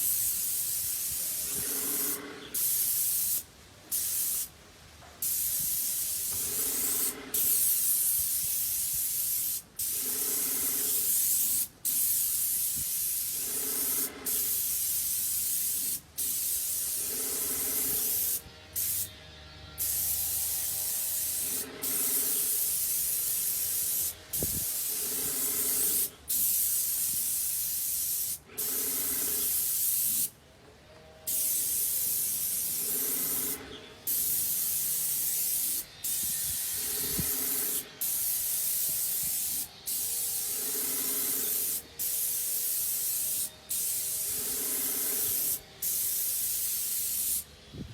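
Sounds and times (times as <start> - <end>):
spray gun hissing: 0.0 - 4.5, 5.2 - 19.2, 19.8 - 30.3, 31.3 - 47.6.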